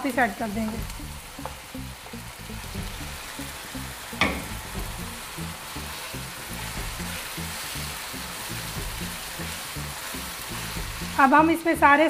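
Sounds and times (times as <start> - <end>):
chicken sizzling in hot oil: 0.0 - 12.0
soft music with pulsing beat: 0.5 - 12.0.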